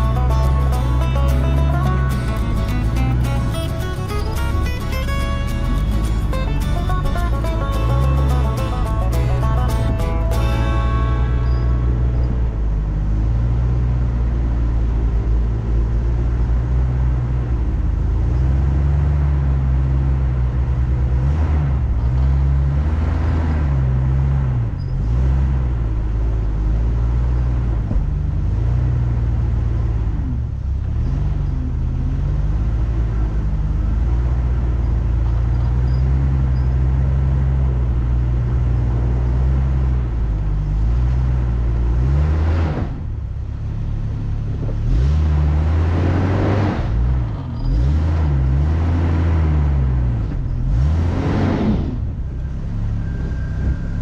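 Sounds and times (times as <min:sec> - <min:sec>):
off-road vehicle engine low revs: 0:00.0 - 0:54.0.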